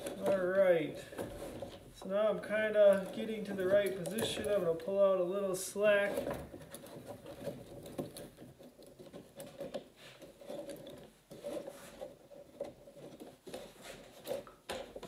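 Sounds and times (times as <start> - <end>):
scratchy handling noise: 0.0 - 5.1, 5.7 - 15.0.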